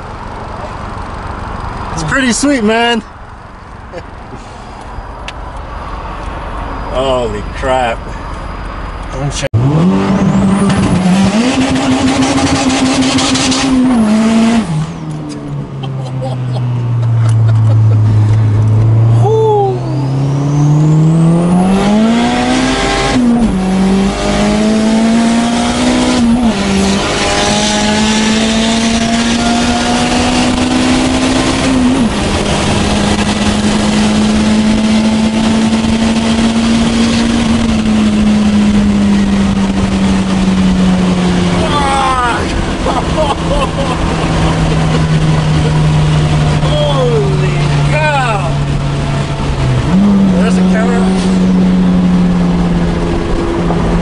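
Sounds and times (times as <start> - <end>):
car engine accelerating hard: 9.1 - 54.0.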